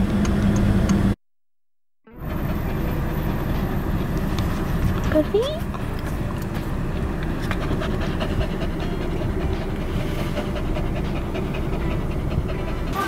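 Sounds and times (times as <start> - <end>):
car rumble: 0.0 - 1.2, 2.1 - 13.0
dog panting: 2.2 - 13.0.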